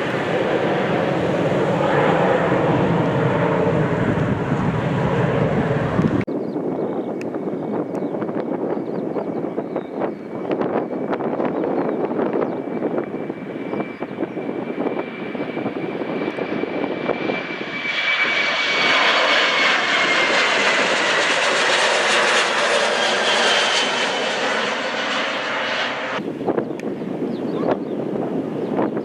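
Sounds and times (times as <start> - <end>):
jet engine roar with high whine: 0.0 - 29.0
wind on microphone: 0.0 - 29.0.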